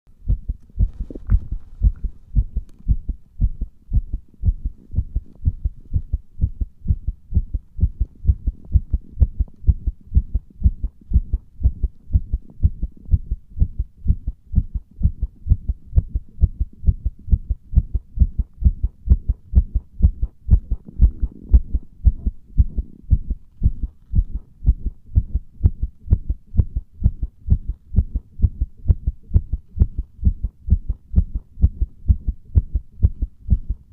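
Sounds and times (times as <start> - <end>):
heartbeat thuds: 0.2 - 33.9.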